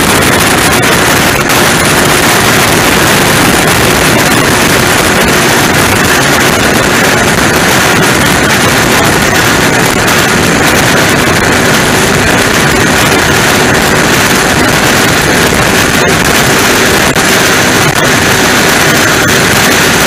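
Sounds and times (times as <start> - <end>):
powerboat engine: 0.0 - 20.0
wind on microphone: 0.0 - 20.0.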